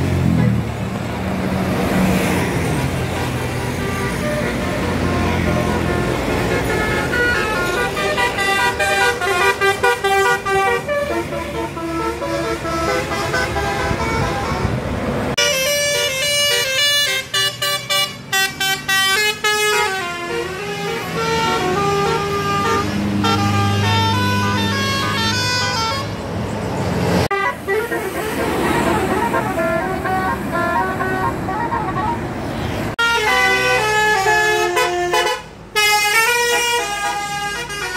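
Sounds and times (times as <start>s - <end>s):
bus engine running: 0.0s - 37.9s
musical air horn melody: 3.7s - 14.8s, 15.4s - 26.2s, 27.3s - 31.3s, 33.0s - 37.9s.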